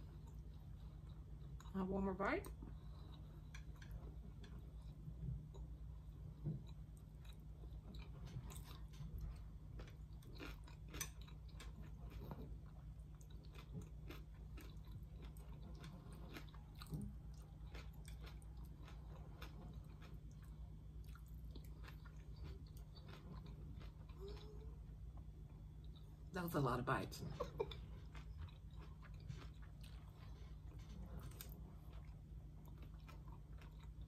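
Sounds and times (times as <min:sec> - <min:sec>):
person chewing food: 0:00.0 - 0:01.7, 0:02.4 - 0:26.3, 0:27.4 - 0:34.0.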